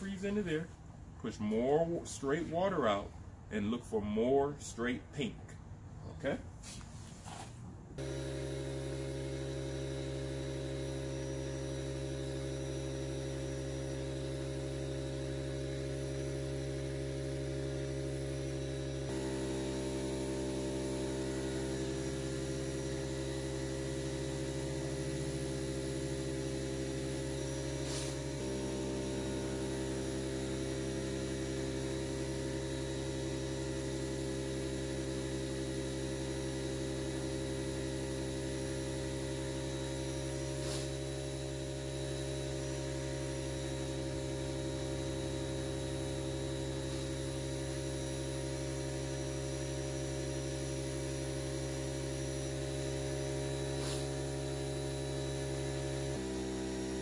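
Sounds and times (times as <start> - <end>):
air compressor motor running: 0.0 - 4.8, 5.5 - 57.0.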